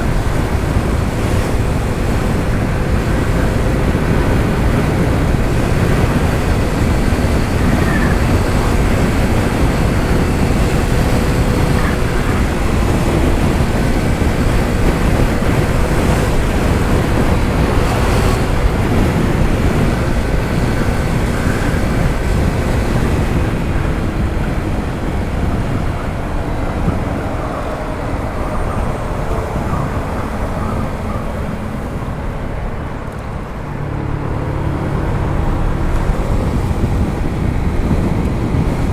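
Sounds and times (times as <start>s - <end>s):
road noise: 0.0s - 38.9s
scooter engine droning: 0.0s - 38.9s
wind rushing over microphone: 0.0s - 38.9s.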